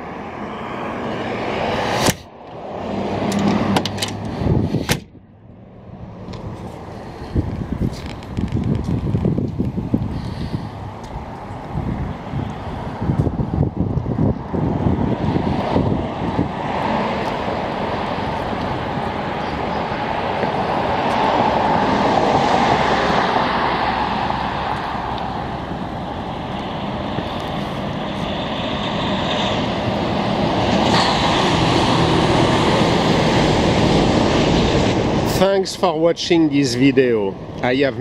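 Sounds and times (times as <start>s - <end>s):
vehicle rumble: 0.0s - 38.0s
wind buffeting microphone: 3.2s - 5.2s, 6.0s - 35.6s.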